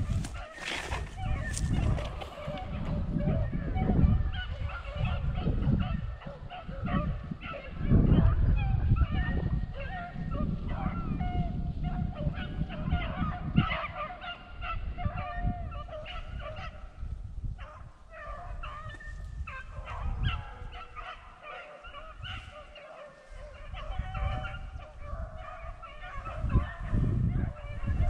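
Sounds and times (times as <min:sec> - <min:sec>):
hounds baying and yelping: 0:00.0 - 0:28.0
wind noise: 0:00.0 - 0:28.0.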